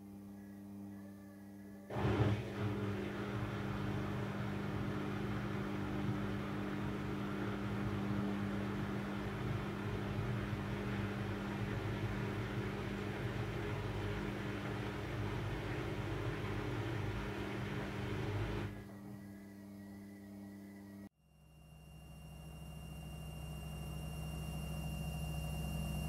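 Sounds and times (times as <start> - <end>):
washing machine motor hum: 0.1 - 26.0.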